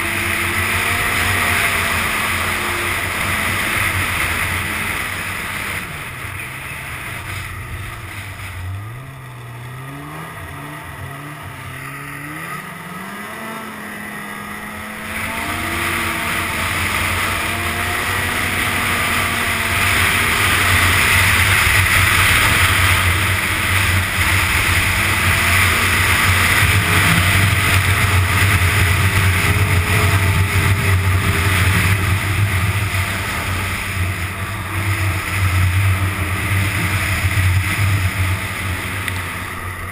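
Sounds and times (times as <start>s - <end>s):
rush of track and wind: 0.0s - 39.9s
snowmobile engine accelerating: 0.0s - 39.9s.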